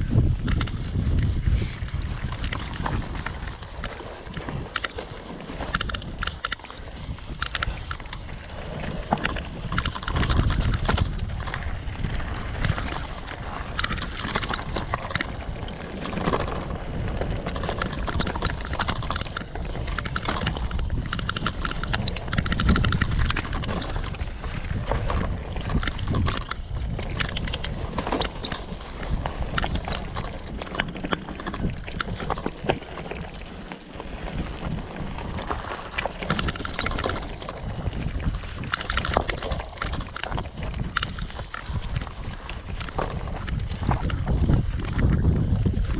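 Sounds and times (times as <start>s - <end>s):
bike rattling over bumps: 0.0s - 45.9s
wind buffeting microphone: 0.0s - 45.9s.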